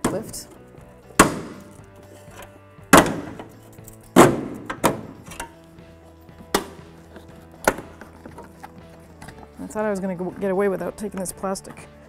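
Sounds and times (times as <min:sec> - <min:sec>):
background music with steady tones: 0:00.0 - 0:12.0.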